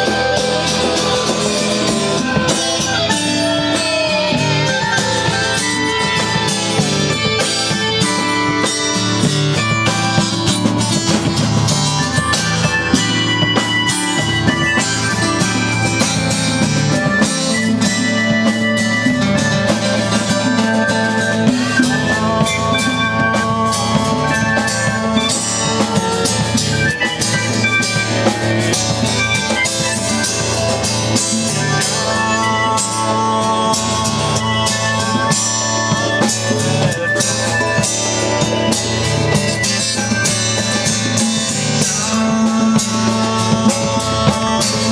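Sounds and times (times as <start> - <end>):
drum kit groove: 0.0 - 44.9
electric guitar lines: 0.0 - 44.9.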